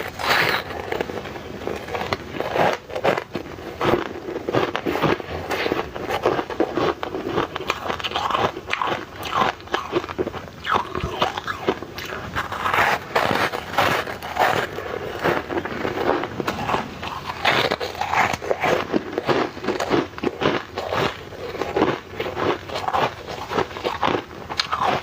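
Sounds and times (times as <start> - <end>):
person chewing ice: 0.0 - 25.0.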